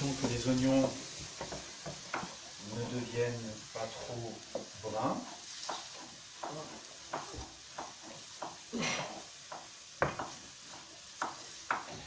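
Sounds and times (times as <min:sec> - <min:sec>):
onions sizzling in oil: 0:00.0 - 0:12.0
spatula scraping frying pan: 0:00.0 - 0:12.0.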